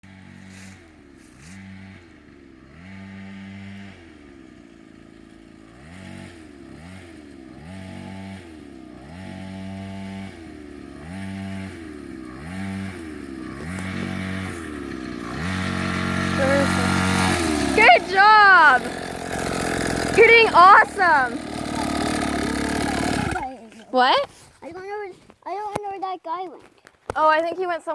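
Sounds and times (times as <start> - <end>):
dirt bike engine revving: 0.0 - 24.4.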